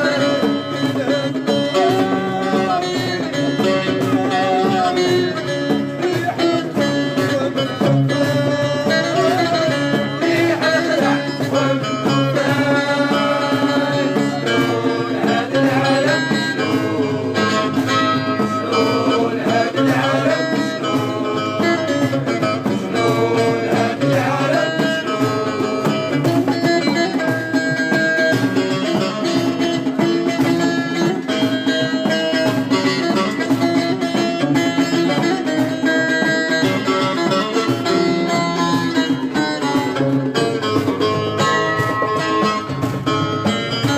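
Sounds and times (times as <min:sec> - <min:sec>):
plucked string instruments playing: 0:00.0 - 0:43.9.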